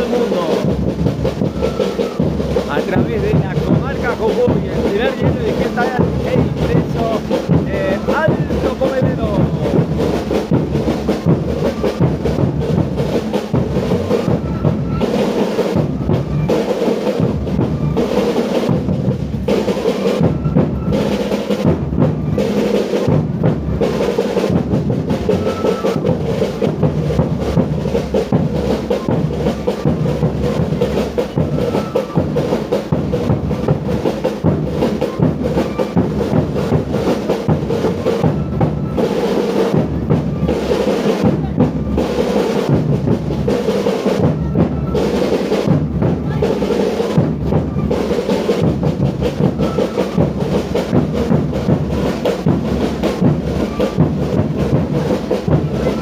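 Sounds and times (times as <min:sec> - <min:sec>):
bass drum and snare rhythm: 0:00.0 - 0:56.0.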